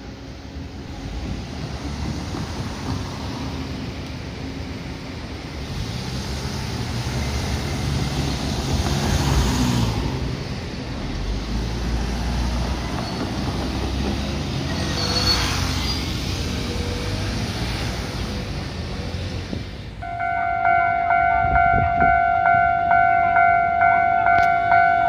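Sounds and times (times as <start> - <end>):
cars driving past: 0.6 - 25.0.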